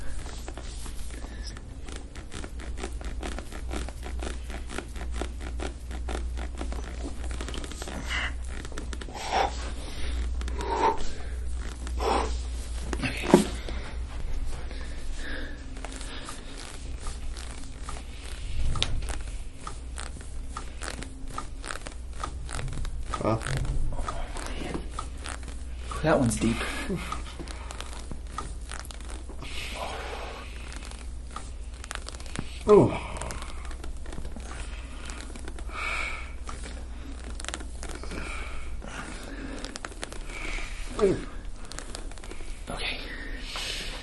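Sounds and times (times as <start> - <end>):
hands rubbing skin and cloth: 0.0 - 44.0
low steady hum: 0.0 - 44.0.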